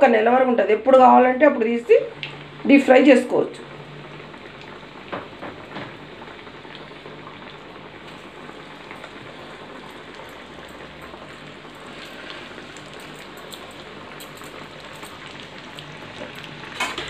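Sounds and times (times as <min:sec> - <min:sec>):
oil sizzling while deep-frying: 0:00.0 - 0:17.0.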